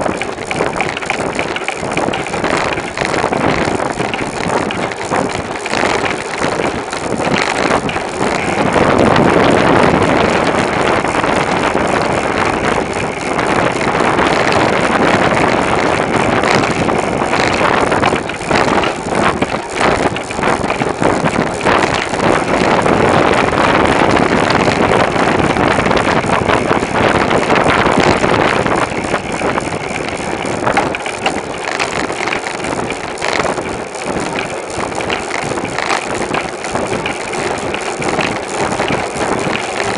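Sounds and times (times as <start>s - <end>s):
bicycle road noise: 0.0s - 39.9s
wind on microphone: 0.0s - 39.9s.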